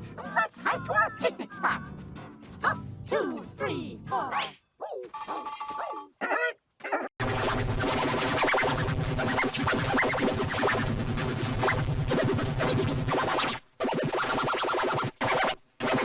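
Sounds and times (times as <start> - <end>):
distorted electronic cartoon music: 0.0 - 1.9, 2.6 - 16.0.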